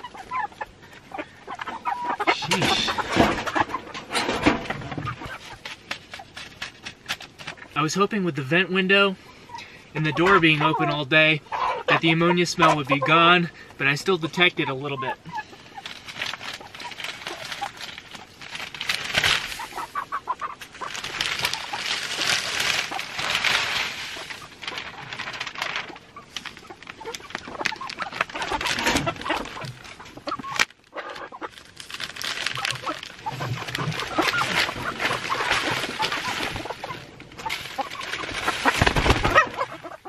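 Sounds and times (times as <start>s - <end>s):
wood shavings and sack rustling: 0.0s - 9.1s, 10.0s - 11.4s, 13.8s - 40.0s
hens clucking: 0.0s - 40.0s.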